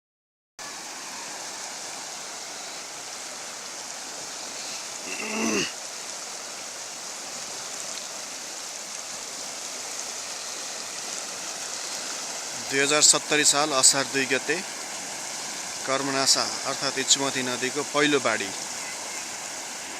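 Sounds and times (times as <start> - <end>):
floodwater rushing: 0.6 - 19.9.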